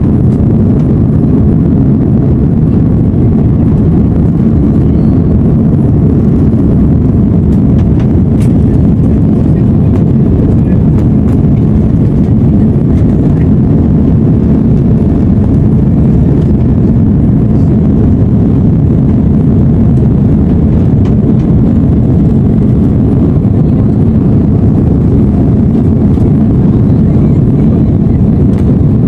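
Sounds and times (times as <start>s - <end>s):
jet engines and rushing air: 0.0s - 29.0s.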